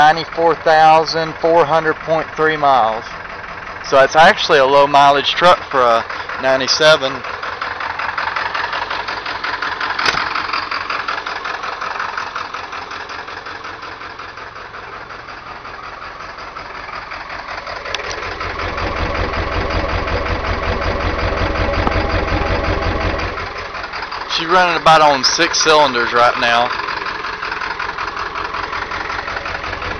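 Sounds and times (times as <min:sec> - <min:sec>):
diesel engine idling roughly: 0:00.0 - 0:29.9.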